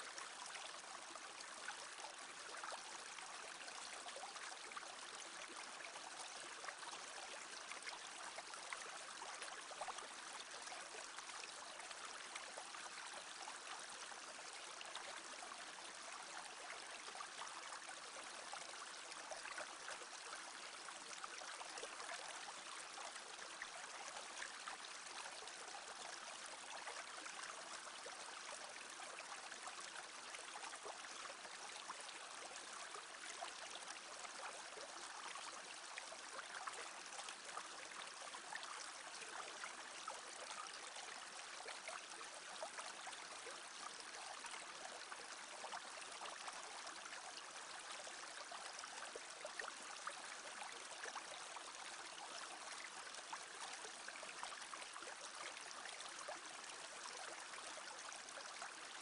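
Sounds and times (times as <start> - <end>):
brook babbling over stones: 0.0 - 59.0.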